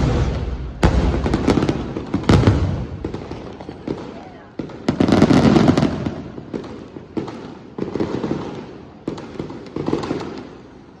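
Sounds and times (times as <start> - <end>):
fireworks crackling bangs: 0.0 - 11.0.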